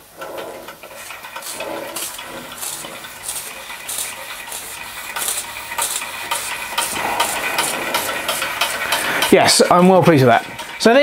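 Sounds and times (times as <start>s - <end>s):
steam engine exhaust puffing: 0.0s - 11.0s.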